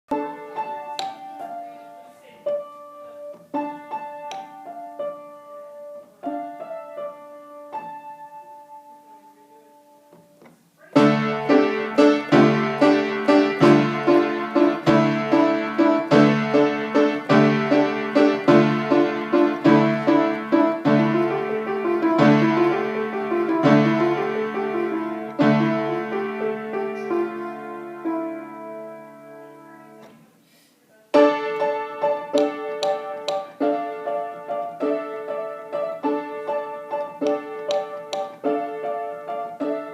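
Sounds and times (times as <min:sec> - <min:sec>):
solo piano music: 0:00.1 - 0:30.2, 0:31.0 - 0:39.9.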